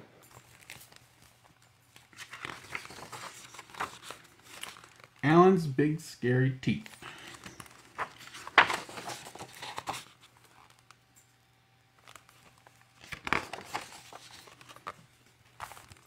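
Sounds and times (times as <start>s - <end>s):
book pages turning: 0.2s - 5.2s, 6.7s - 11.0s, 12.0s - 16.0s.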